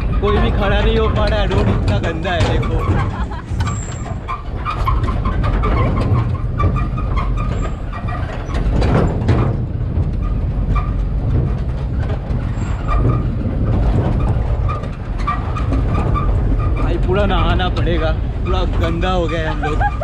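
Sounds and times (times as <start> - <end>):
steel frame rattling and clanking: 0.0 - 20.0
truck engine and tyres rumbling: 0.0 - 20.0.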